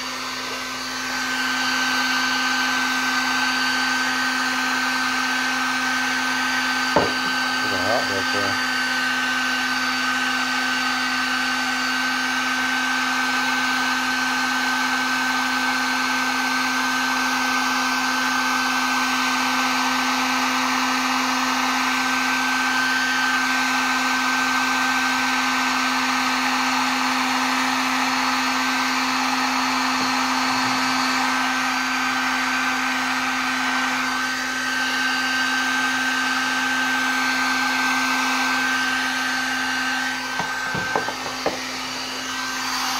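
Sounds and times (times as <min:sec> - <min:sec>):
heat gun fan running: 0:00.0 - 0:42.9.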